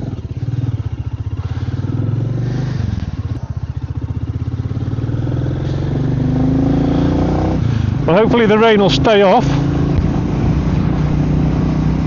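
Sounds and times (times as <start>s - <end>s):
motorcycle engine riding off: 0.0s - 12.0s.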